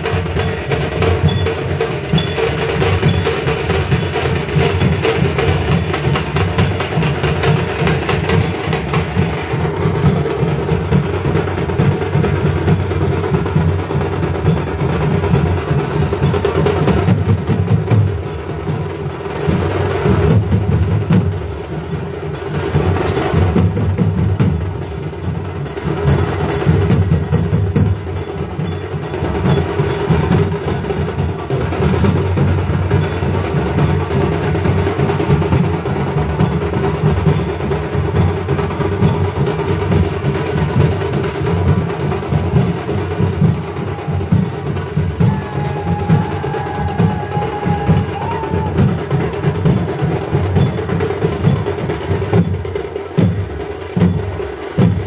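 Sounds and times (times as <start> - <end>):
drums playing a steady beat: 0.0 - 55.0.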